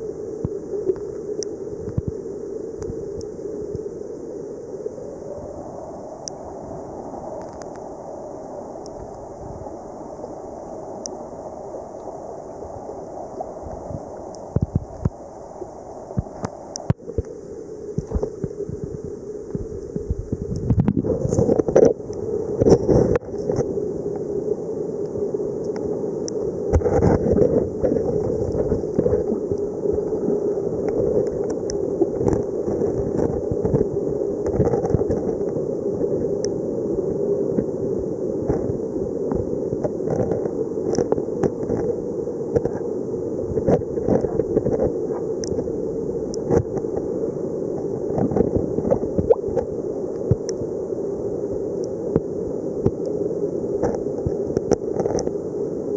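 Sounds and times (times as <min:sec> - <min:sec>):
underwater water rush: 0:00.0 - 0:55.9.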